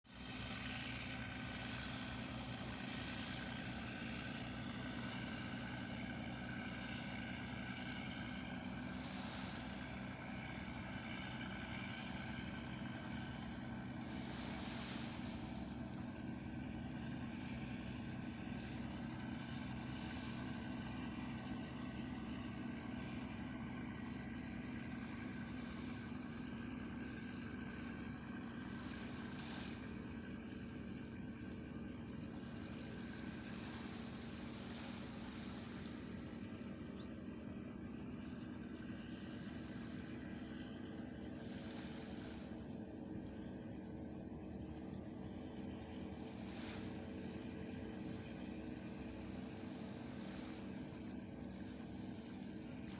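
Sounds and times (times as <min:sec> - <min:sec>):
ship engine drone: 0:00.1 - 0:52.9.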